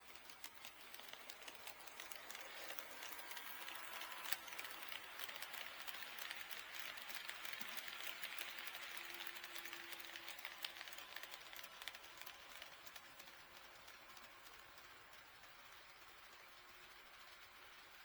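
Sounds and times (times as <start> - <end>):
model train wheels clicking: 0.0 - 18.0
model train rolling hiss: 0.1 - 18.0.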